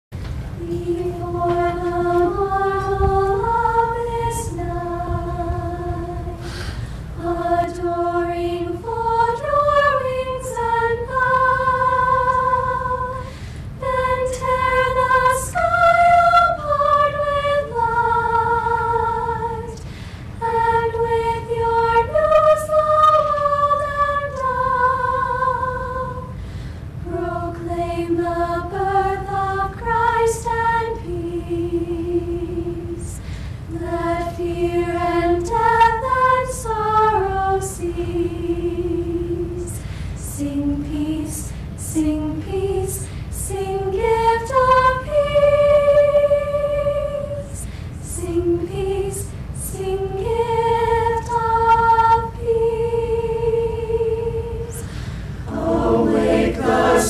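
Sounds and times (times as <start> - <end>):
choir singing a cappella: 0.6 - 57.0.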